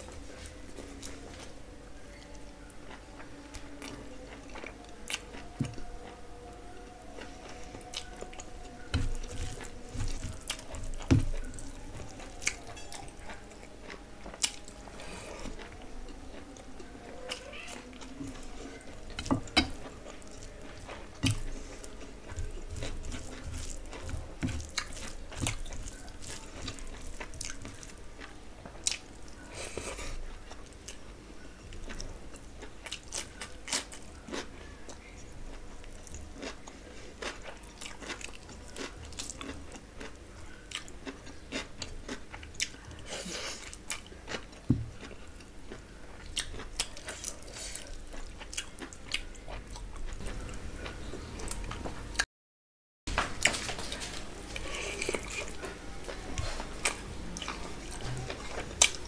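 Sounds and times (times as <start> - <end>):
person chewing food: 0.0 - 52.2, 53.1 - 59.0.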